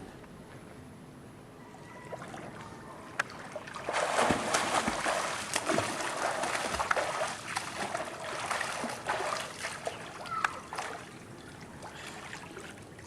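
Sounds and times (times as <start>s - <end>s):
water splashing and sloshing: 2.0s - 13.0s.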